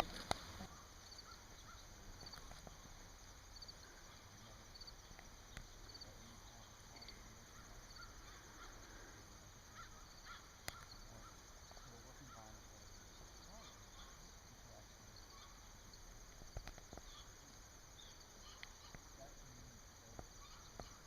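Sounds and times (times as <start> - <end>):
faint animal calls: 0.0 - 21.0.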